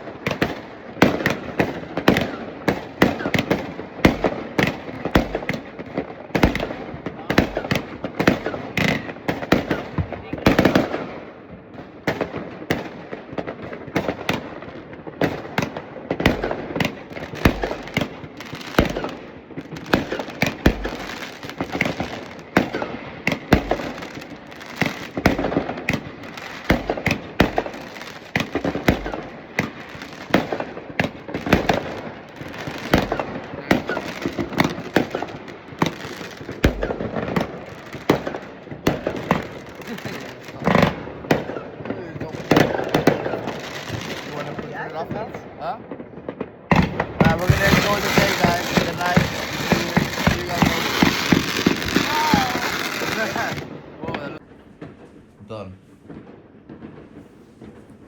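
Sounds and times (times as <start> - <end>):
deep firework thuds: 0.0 - 45.3, 45.9 - 58.0
fireworks and firecrackers banging: 0.0 - 58.0.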